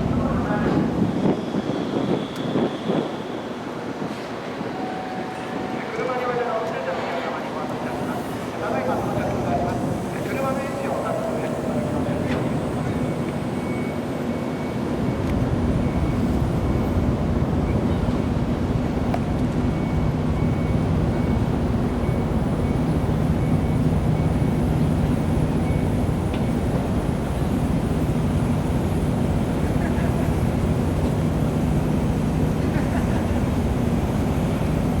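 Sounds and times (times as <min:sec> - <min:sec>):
ship engines rumbling: 0:00.0 - 0:35.0.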